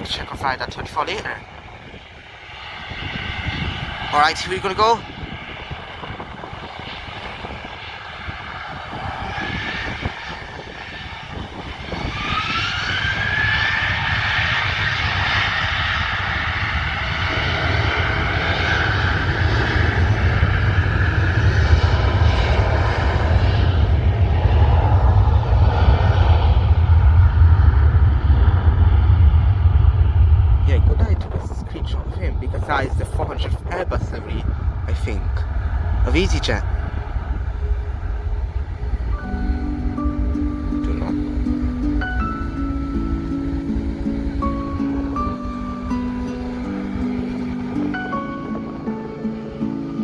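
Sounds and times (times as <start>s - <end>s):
deep jet engine rumble: 0.0s - 50.0s
jet engine whine: 0.0s - 50.0s.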